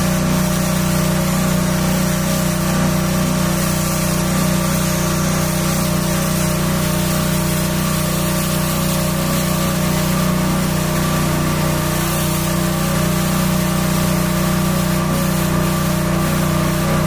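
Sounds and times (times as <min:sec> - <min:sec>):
pressure washer motor humming: 0:00.0 - 0:17.0
water jet hissing: 0:00.0 - 0:17.0.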